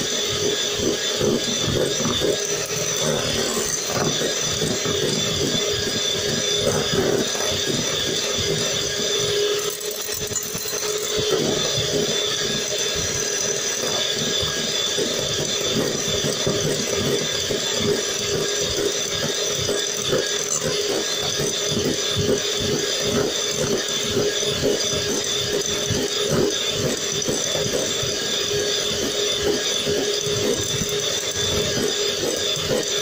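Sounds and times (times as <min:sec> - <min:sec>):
beaters rattling in bowl: 0:00.0 - 0:33.0
electric hand mixer whine: 0:00.0 - 0:33.0.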